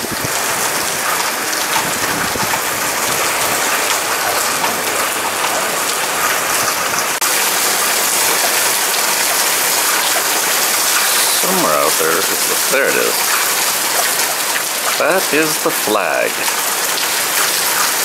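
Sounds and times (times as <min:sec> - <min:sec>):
heavy rain on pavement: 0:00.0 - 0:18.0.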